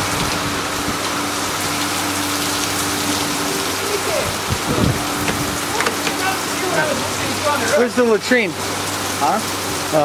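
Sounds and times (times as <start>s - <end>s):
torrential rain pouring: 0.0s - 10.0s.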